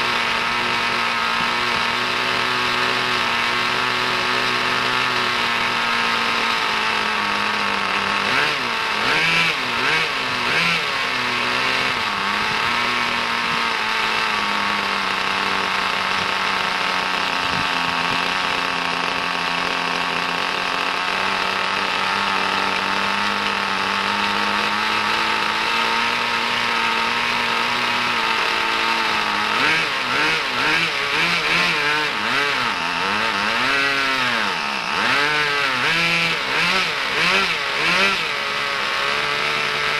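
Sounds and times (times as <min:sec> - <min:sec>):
nitro rc car engine revving: 0:00.0 - 0:39.9.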